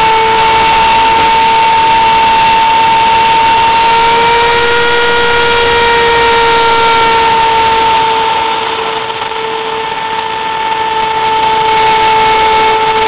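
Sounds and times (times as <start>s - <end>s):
bit cutting through wood: 0.0s - 13.0s
spindle motor whining: 0.0s - 13.0s.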